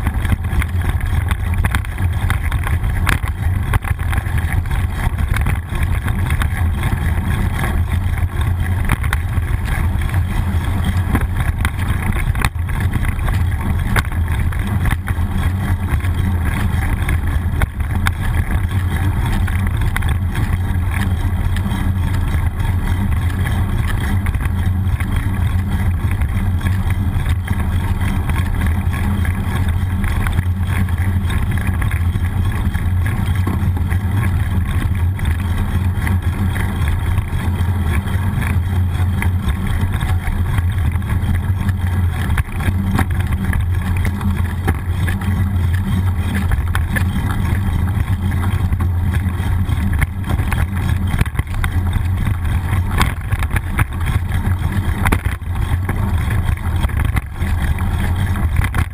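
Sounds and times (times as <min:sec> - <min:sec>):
road noise: 0:00.0 - 0:58.9.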